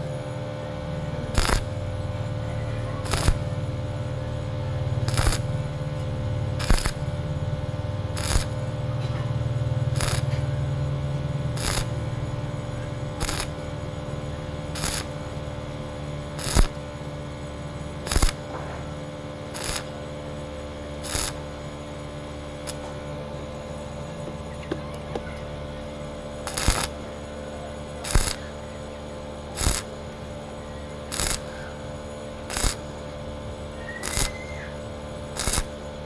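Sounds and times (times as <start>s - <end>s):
steady hum: 0.0s - 36.0s
welding arc bursts: 0.0s - 36.0s.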